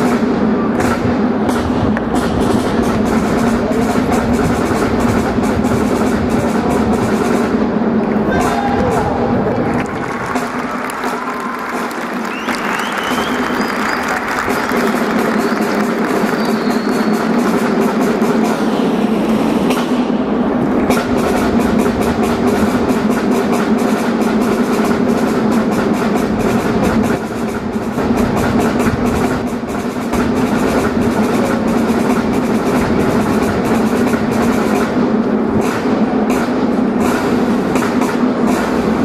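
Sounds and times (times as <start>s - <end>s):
rapid percussion beat: 0.0s - 39.0s.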